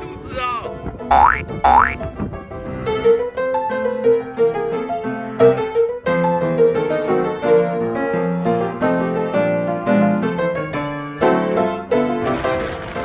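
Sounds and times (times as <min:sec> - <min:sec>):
piano music: 0:01.0 - 0:12.4.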